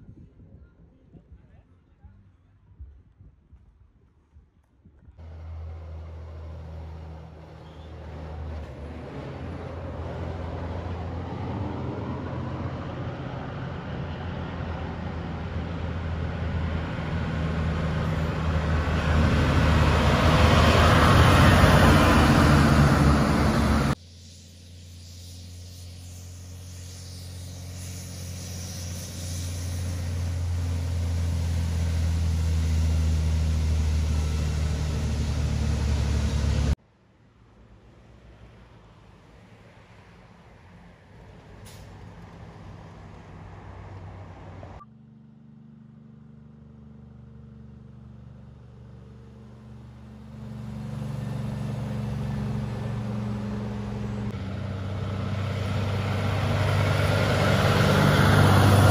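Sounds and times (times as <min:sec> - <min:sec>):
trucks driving past: 0:05.2 - 0:58.9.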